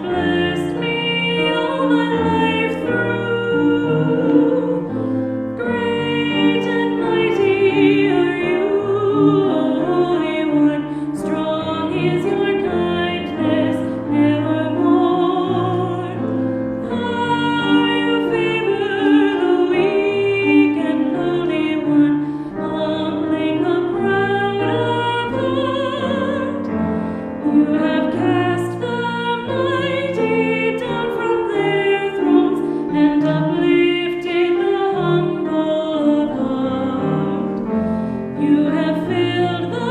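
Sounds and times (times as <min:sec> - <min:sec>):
piano accompaniment: 0:00.0 - 0:39.9
voices singing a hymn: 0:00.0 - 0:39.9.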